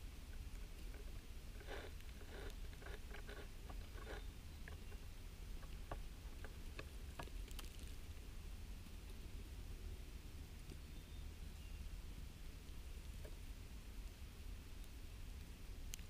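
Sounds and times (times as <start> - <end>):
low steady rumble: 0.0 - 16.0
soft patters and ticks: 0.0 - 16.0.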